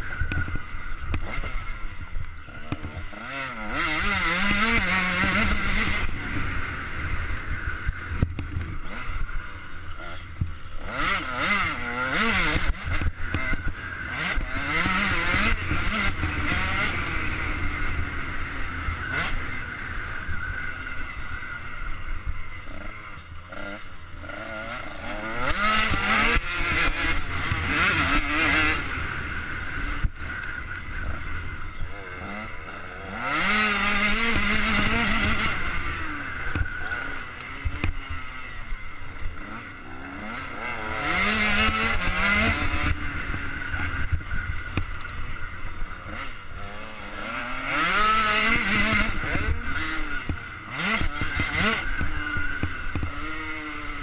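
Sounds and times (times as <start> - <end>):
motocross engine revving: 0.0 - 54.0.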